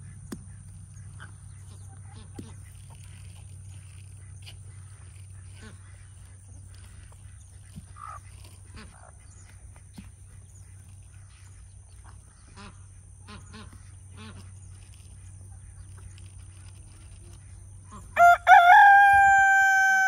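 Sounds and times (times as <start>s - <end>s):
steady low hum: 0.0s - 19.9s
chickens clucking and squawking: 0.0s - 20.0s.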